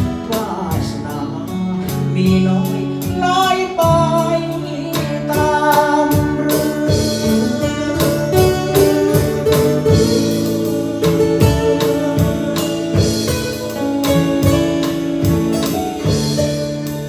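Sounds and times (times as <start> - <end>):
guitar: 0.0 - 17.0
keyboard notes: 0.0 - 17.0
steady drum beat: 0.0 - 17.0.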